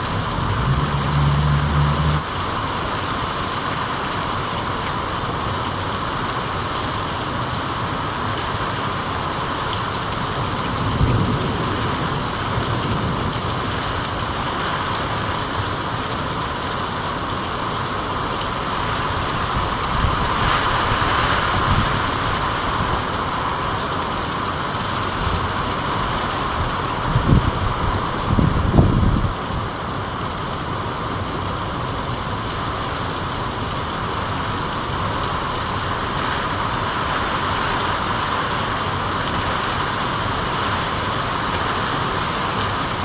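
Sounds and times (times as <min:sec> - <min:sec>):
steady rainfall: 0:00.0 - 0:43.0.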